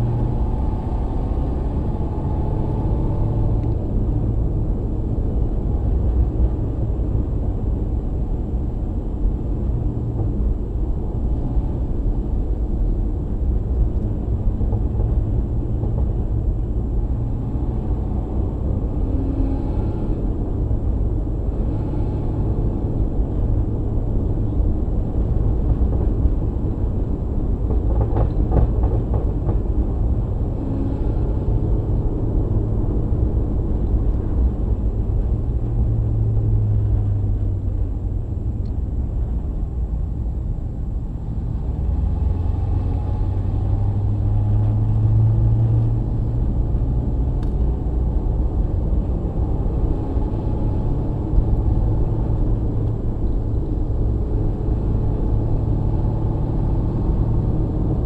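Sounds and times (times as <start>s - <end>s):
car engine and exhaust drone: 0.0s - 58.0s
road noise: 0.0s - 58.0s.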